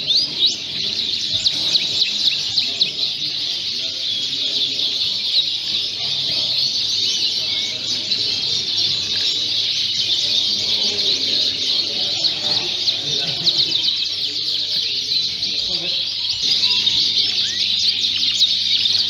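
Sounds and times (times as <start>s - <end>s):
canaries chirping and singing: 0.0s - 19.0s.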